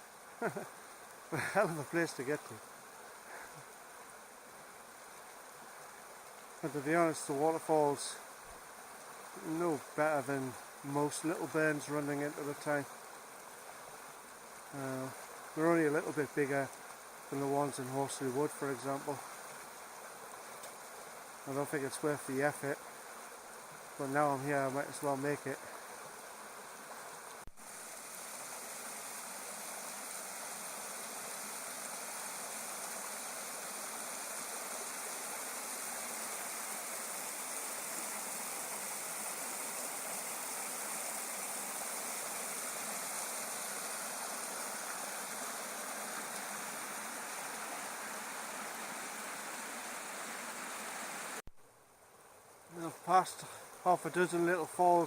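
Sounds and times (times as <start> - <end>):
stream rushing over small falls: 0.0 - 55.0.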